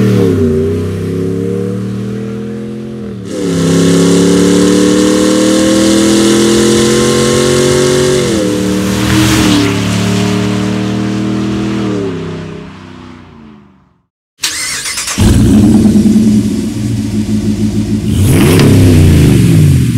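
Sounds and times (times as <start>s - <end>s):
truck engine accelerating: 0.0s - 19.9s.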